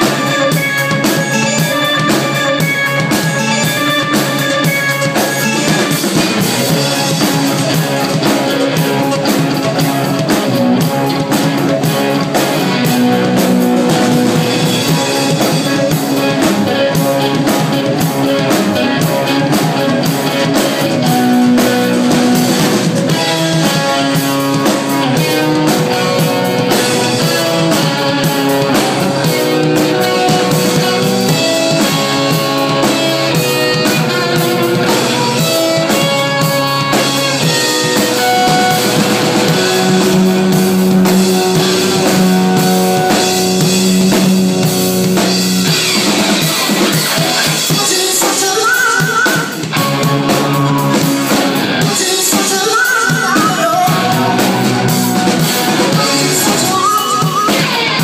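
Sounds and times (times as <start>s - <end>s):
drum kit: 0.0s - 58.0s
electric guitar: 0.0s - 58.0s
keyboard: 0.0s - 58.0s.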